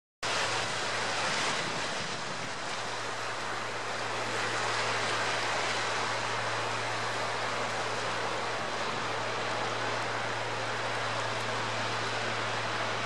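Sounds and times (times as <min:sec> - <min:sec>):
sea water washing on rocks: 0:00.2 - 0:13.0.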